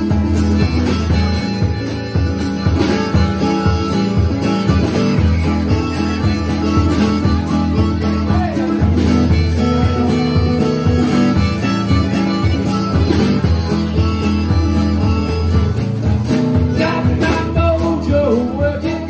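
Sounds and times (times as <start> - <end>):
drum kit: 0.0 - 19.0
strummed acoustic guitar: 0.0 - 19.0.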